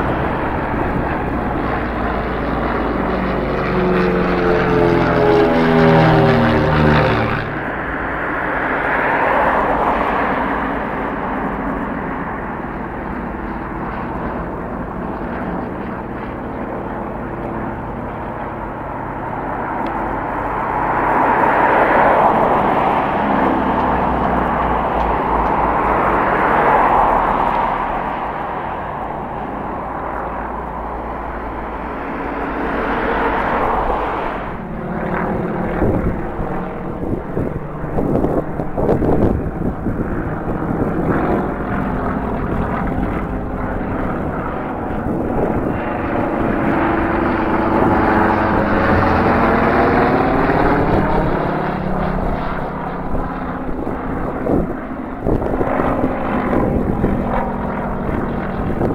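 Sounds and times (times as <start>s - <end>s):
propeller planes droning overhead: 0.0s - 58.9s.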